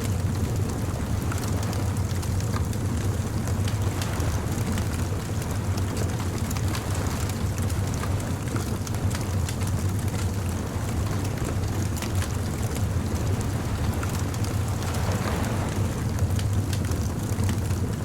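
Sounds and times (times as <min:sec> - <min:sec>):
bonfire crackling and popping: 0:00.0 - 0:18.0.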